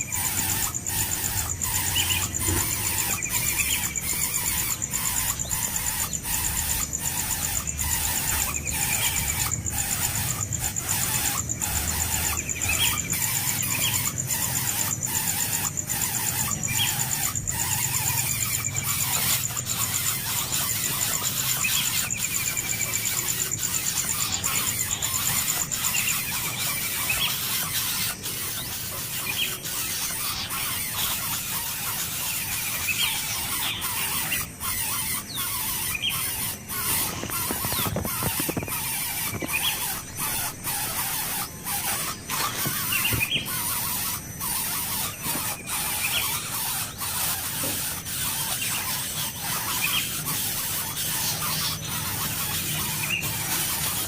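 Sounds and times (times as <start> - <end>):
nestling birds squealing: 0.0 - 54.0.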